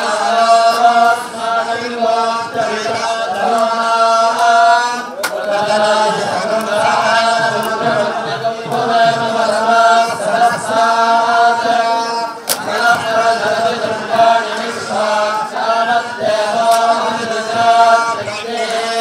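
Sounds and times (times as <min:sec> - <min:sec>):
voices chanting: 0:00.0 - 0:19.0.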